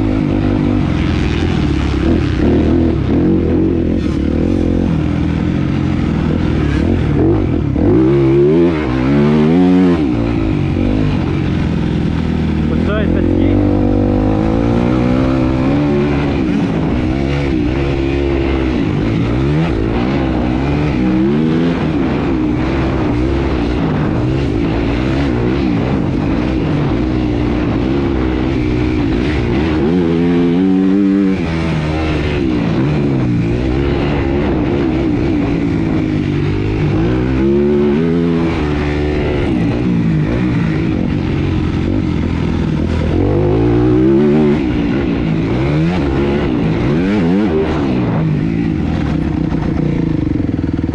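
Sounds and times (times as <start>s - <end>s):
dirt bike engines racing: 0.0s - 50.9s.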